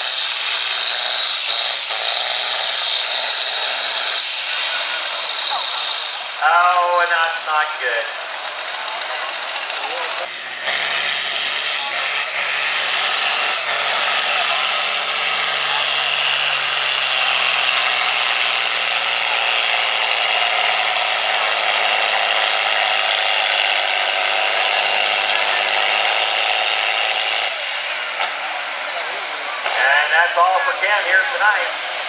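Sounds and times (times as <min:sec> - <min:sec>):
tractor diesel engine roaring: 0:00.0 - 0:32.0.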